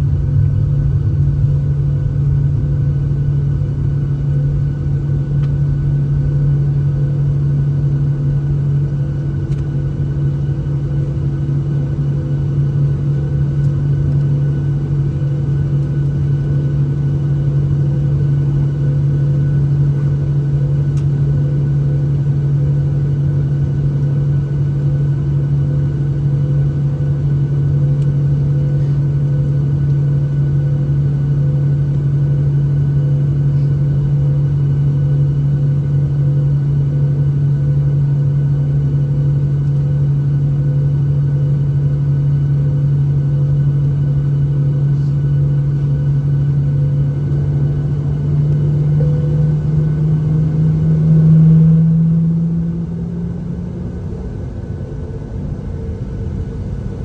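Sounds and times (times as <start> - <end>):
jet engines idling: 0.0 - 57.0
low cabin hum: 0.0 - 57.0.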